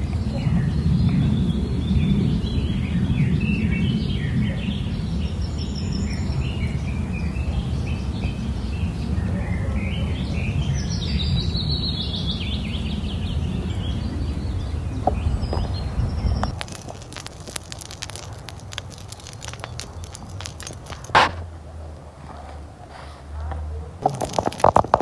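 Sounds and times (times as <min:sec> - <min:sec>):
small birds chirping: 0:00.0 - 0:21.1.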